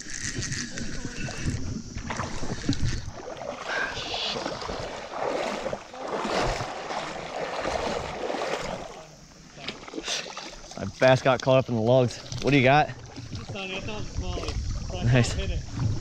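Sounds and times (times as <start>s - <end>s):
creek water splashing: 0.0s - 16.0s.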